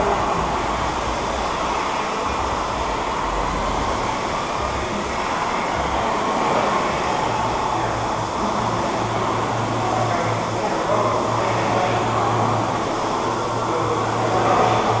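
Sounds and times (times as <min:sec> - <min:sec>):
rowing machine fans spinning: 0:00.0 - 0:15.0.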